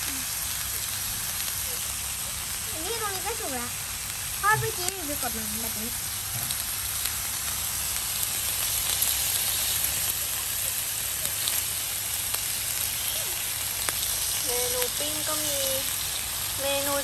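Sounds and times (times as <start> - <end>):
pork sizzling on grill pan: 0.0 - 17.0.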